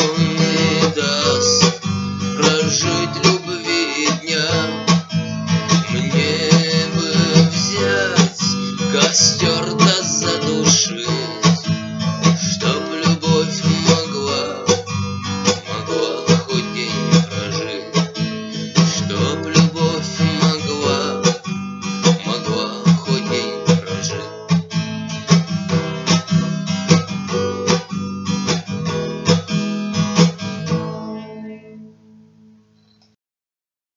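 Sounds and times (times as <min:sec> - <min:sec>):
acoustic guitar strumming: 0:00.0 - 0:32.8.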